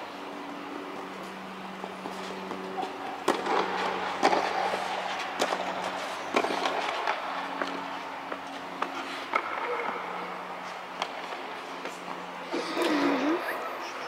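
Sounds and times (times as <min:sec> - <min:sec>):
tennis balls struck and bouncing: 0:00.9 - 0:13.0.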